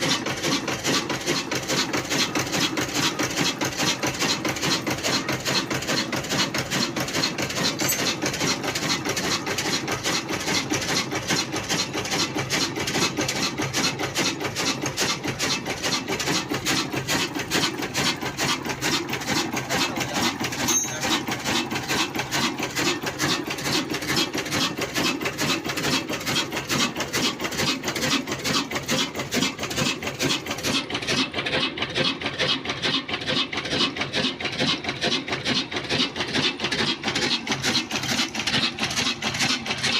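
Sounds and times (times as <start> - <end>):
diesel engine running: 0.0 - 39.9
stone mill grinding: 0.0 - 39.9.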